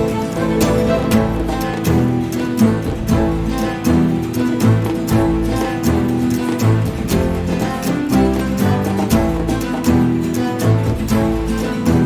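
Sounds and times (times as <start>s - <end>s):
percussive hits: 0.0s - 12.0s
plucked guitar music: 0.0s - 12.0s.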